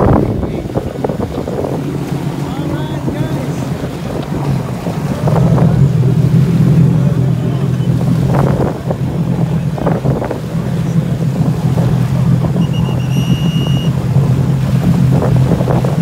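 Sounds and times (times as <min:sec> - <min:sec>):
jet ski engines idling: 0:00.0 - 0:16.0
jet wash churning water: 0:00.0 - 0:16.0
wind on microphone: 0:00.0 - 0:16.0.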